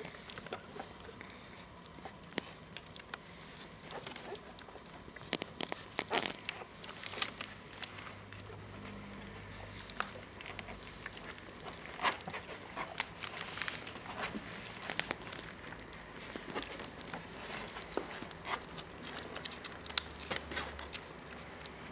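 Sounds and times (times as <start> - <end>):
puppies suckling: 0.0 - 21.9.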